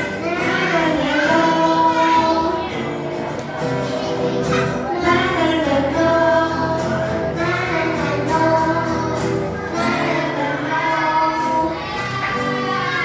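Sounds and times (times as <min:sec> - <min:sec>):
acoustic guitar: 0:00.0 - 0:13.0
woman and children singing: 0:00.0 - 0:13.0.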